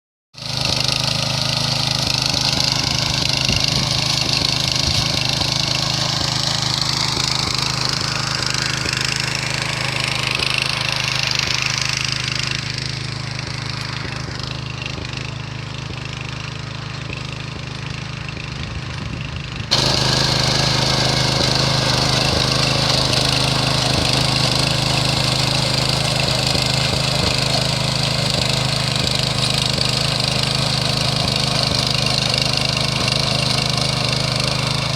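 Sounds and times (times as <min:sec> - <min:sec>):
tiller engine running: 0:00.4 - 0:34.9.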